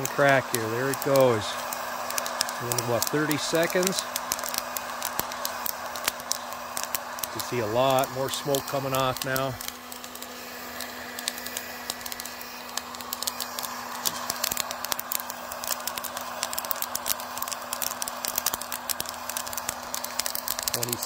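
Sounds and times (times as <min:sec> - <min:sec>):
coffee beans popping: 0:00.0 - 0:21.0
roaster fan blowing: 0:00.0 - 0:21.0.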